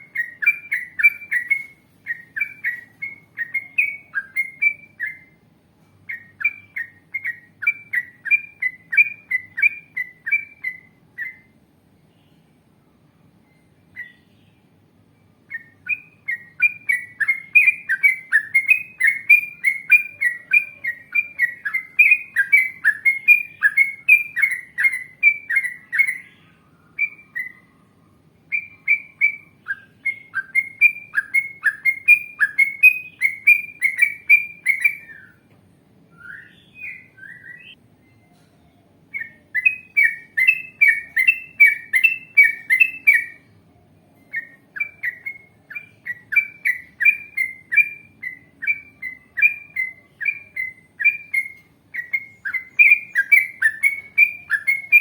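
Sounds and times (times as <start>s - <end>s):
bird singing rolling notes: 0.0s - 55.0s.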